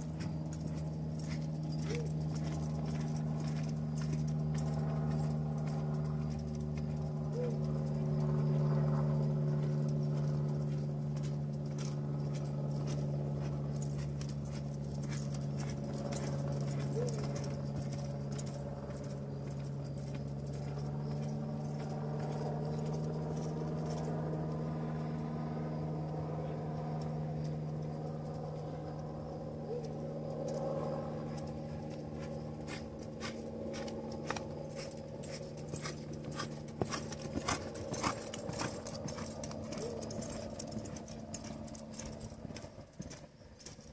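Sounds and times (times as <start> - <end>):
muffled hoofbeats: 0.0 - 24.2, 31.4 - 43.9
jingling tack: 0.0 - 25.2, 27.0 - 43.9
low engine hum: 0.0 - 43.9.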